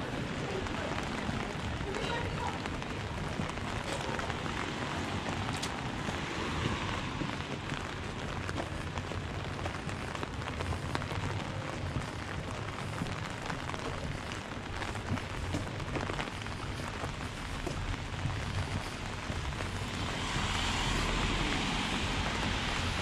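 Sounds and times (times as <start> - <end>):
rain on wet pavement: 0.0 - 23.0
raindrop ticks: 0.0 - 23.0.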